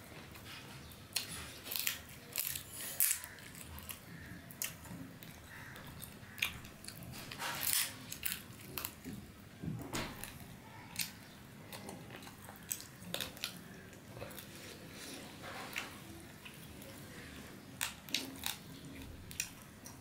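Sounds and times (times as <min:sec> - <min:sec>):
man chewing food: 0:00.0 - 0:09.5, 0:10.2 - 0:20.0.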